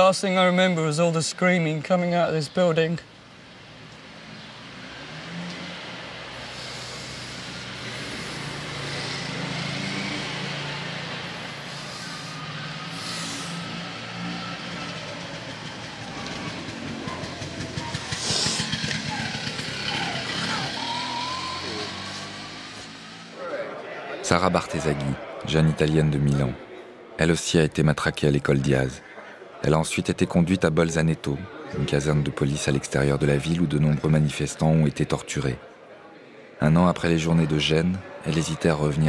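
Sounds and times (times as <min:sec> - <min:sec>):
traffic passing: 0:00.0 - 0:39.0.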